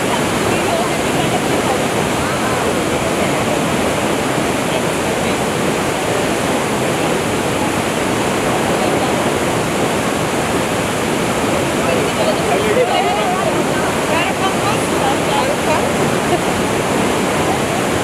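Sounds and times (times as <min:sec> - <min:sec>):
shallow river flowing: 0:00.0 - 0:18.0
waterfall rushing: 0:00.0 - 0:18.0.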